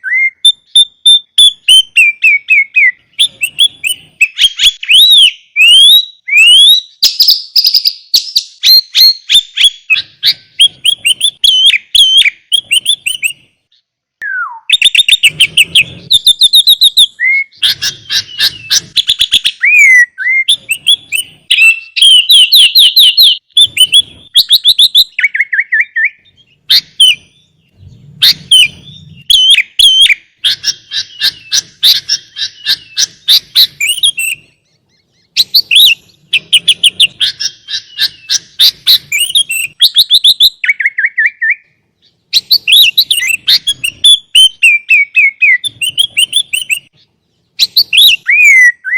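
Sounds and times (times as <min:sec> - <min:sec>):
bird singing varied song: 0:00.0 - 0:48.9.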